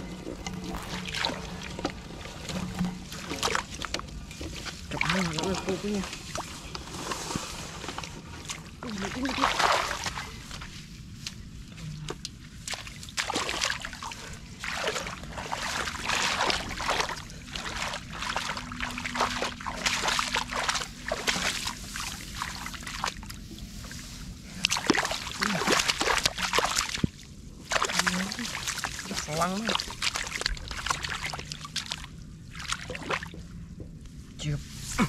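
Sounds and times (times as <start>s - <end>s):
shallow water splashing: 0.0s - 35.0s.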